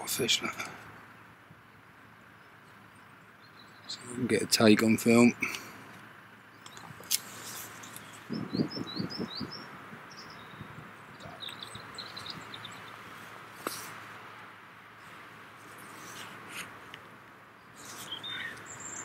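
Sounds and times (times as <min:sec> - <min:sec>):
steady background hiss: 0:00.0 - 0:19.0
small birds chirping: 0:00.1 - 0:19.0.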